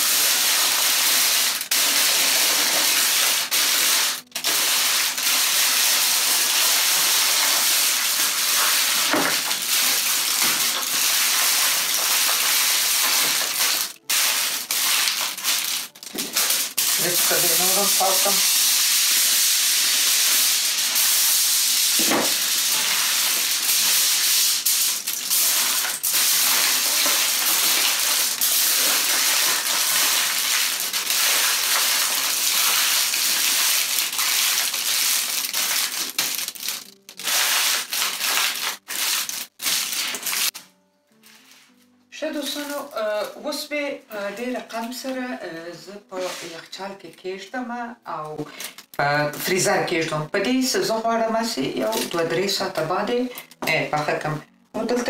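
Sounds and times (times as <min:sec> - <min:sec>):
aluminium foil crinkling: 0:00.0 - 0:45.3, 0:48.2 - 0:49.9, 0:51.4 - 0:55.0.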